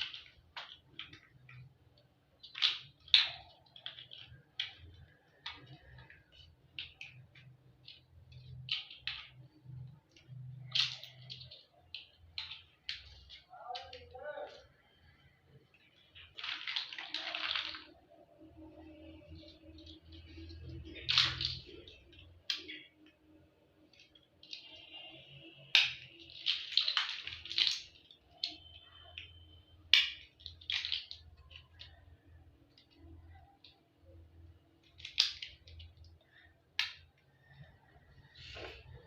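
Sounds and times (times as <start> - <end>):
toy blocks clicking: 0.0 - 39.0.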